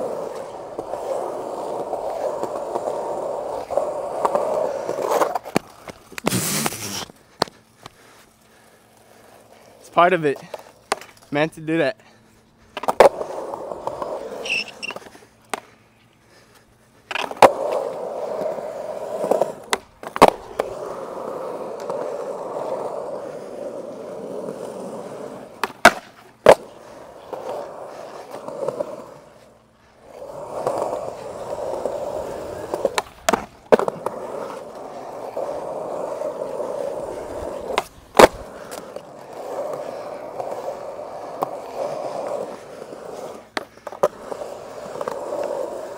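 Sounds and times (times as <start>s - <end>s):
skateboard clacking on ground: 0.0s - 8.0s, 9.0s - 11.4s, 12.7s - 45.9s
skateboard wheels on concrete: 0.0s - 45.9s.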